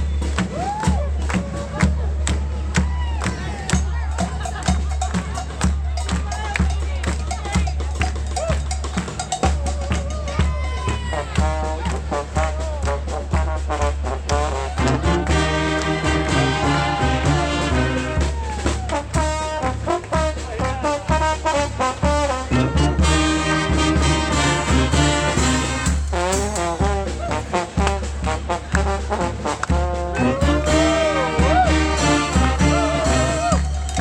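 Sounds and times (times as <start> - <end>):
drumming: 0.0 - 34.0
street brass band playing: 0.0 - 34.0.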